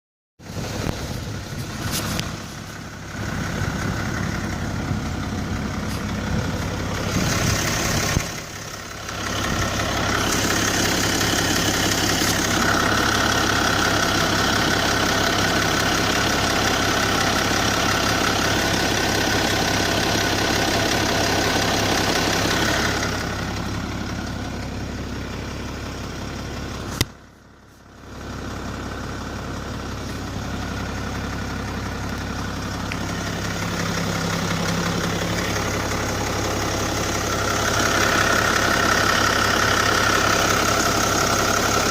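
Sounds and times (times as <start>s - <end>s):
diesel engine running: 0.4s - 41.9s.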